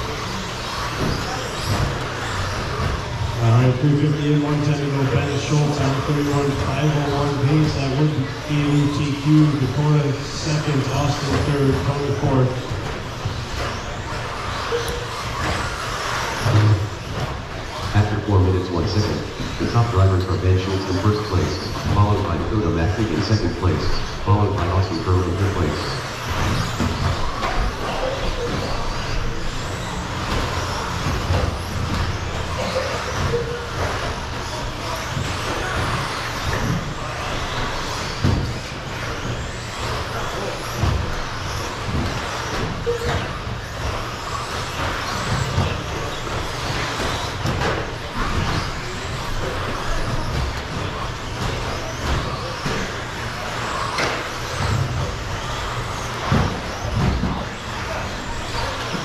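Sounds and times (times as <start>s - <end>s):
toy truck motors and tyres: 0.0s - 4.9s, 5.5s - 18.4s, 23.1s - 59.0s.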